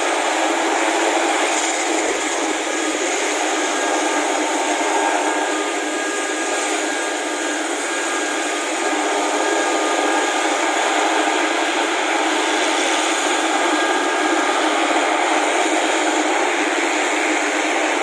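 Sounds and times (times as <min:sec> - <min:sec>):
helicopter rotor running: 0:00.0 - 0:18.0.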